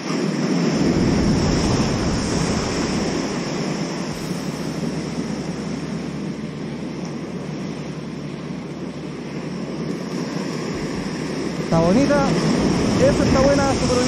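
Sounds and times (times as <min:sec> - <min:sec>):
sea waves breaking on shore: 0:00.0 - 0:14.0.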